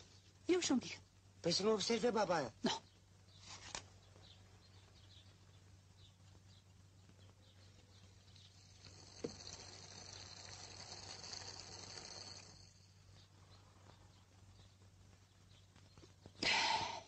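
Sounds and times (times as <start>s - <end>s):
film soundtrack hiss and hum: 0.0s - 17.0s.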